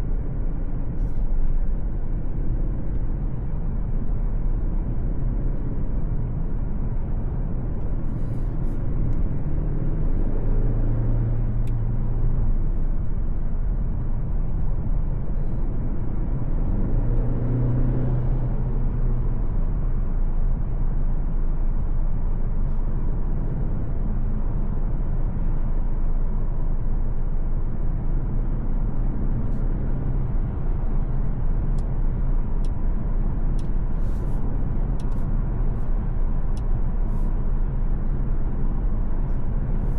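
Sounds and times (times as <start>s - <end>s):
car engine driving: 0.0s - 39.9s
tyres rumbling on road: 0.0s - 39.9s.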